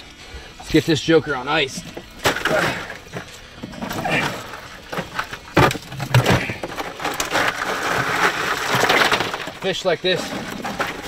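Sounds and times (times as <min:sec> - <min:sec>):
ice crunching and rattling: 0:00.0 - 0:11.0.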